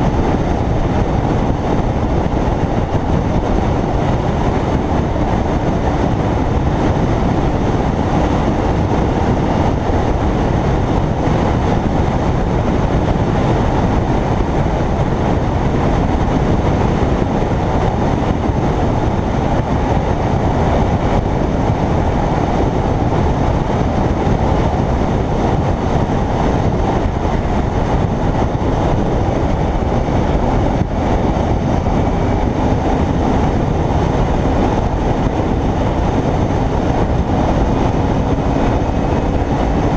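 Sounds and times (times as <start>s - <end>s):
wind and road noise at speed: 0.0s - 39.9s.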